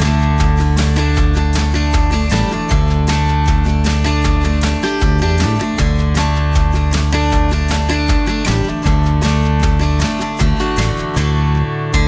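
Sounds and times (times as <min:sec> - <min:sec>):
strummed guitar music with beat: 0:00.0 - 0:12.0.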